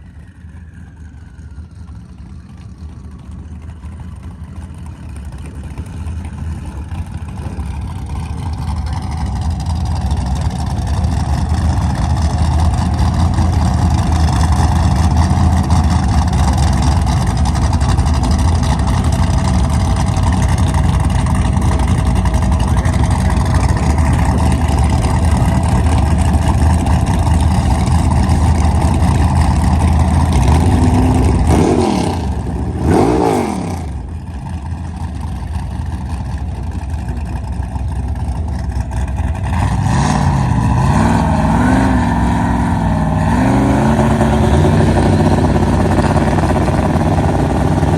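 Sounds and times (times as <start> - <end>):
race car engine running hard: 0.0 - 47.9.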